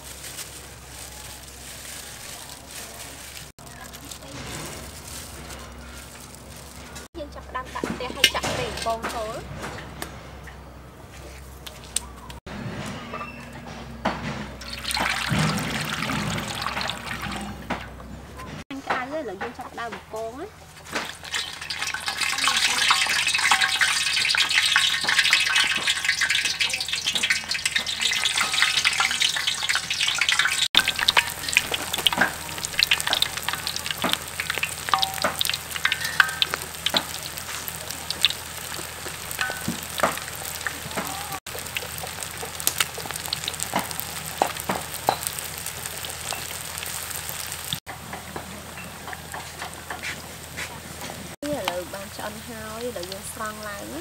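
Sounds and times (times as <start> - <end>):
food deep-frying in hot oil: 0.0 - 7.3, 14.5 - 18.0, 19.5 - 54.0.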